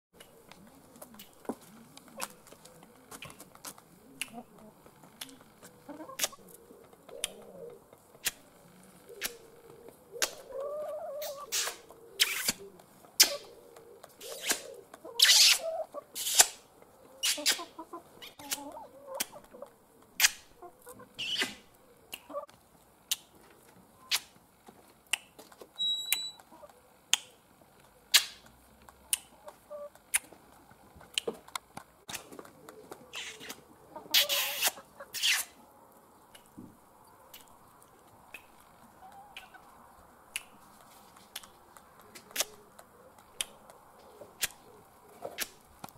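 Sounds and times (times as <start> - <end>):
hens pecking beak taps: 0.2 - 35.1, 36.0 - 45.9
hens clucking softly: 0.2 - 45.9.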